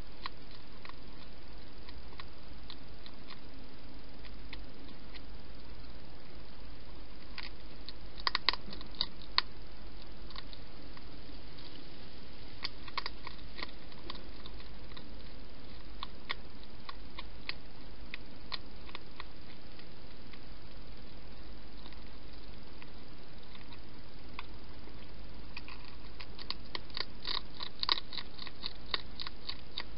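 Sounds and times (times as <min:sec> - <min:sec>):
faint steady hiss: 0:00.0 - 0:29.9
hedgehog crunching food: 0:00.0 - 0:29.9.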